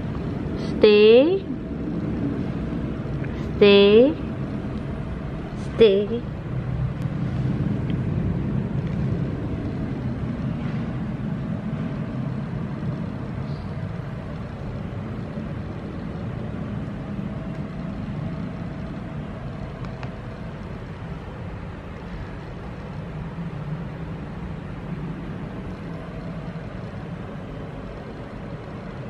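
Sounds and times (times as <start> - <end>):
faint steady hum: 0.0 - 29.0
low rumble: 0.0 - 29.0.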